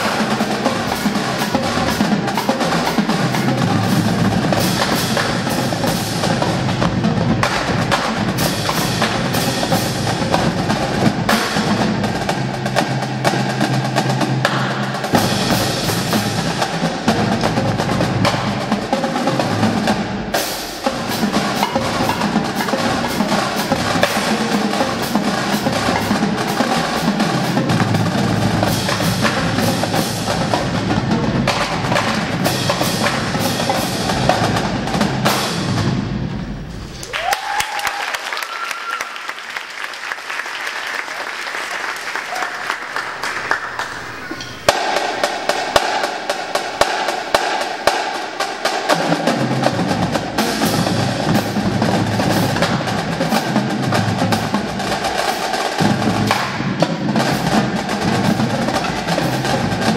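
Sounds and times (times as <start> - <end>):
bass drums: 0.0 - 37.3, 43.1 - 59.9
snare drums: 0.0 - 59.9
tenor drums: 0.0 - 59.9.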